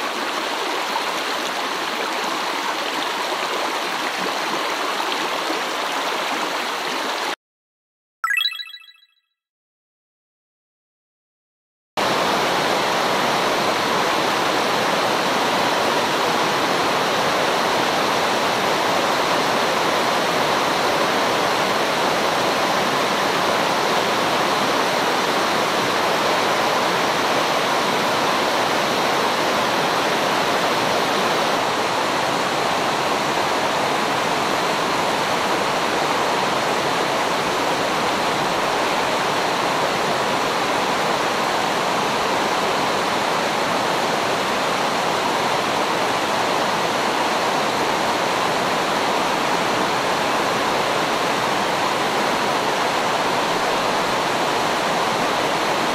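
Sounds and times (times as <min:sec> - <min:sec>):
stream rushing over boulders: 0:00.0 - 0:07.4, 0:12.0 - 0:55.9.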